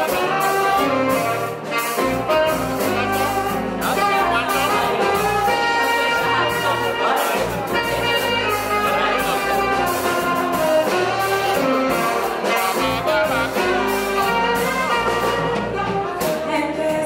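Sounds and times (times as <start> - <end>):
bass guitar: 0.0 - 17.0
drums with cymbals: 0.0 - 17.0
saxophone melody: 0.0 - 17.0.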